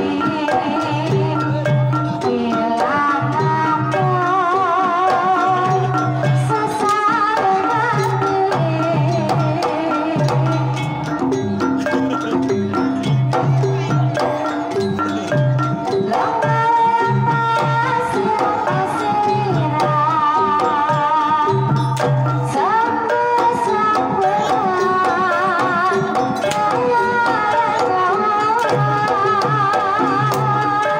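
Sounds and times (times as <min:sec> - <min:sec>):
woman singing ornamented melody: 0:00.0 - 0:11.3, 0:13.0 - 0:30.9
metallophones: 0:00.0 - 0:30.9.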